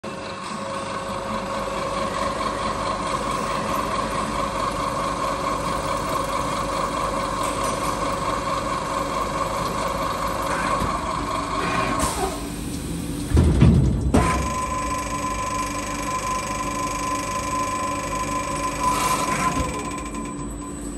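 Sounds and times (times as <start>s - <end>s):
spindle motors whining: 1.8s - 13.4s, 14.0s - 20.9s.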